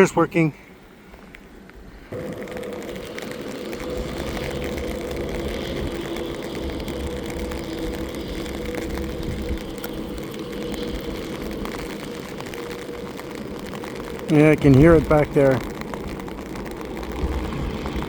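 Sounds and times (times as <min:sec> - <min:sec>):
light rain patter: 0:00.0 - 0:18.0
engine hum with low rumble: 0:02.3 - 0:18.0.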